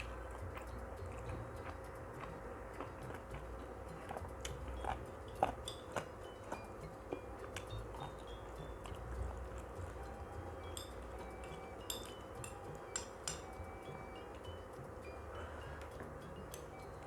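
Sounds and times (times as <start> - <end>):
chewing and mouth clicks: 0.0 - 17.0
steady low hum: 0.0 - 17.0.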